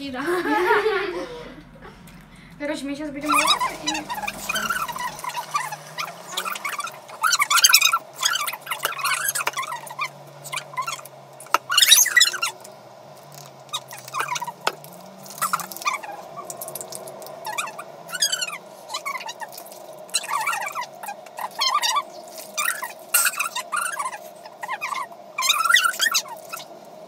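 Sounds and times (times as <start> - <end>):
steady low hum: 0.0 - 27.0
high-pitched squeaky chattering voices: 3.2 - 12.7, 13.7 - 26.7.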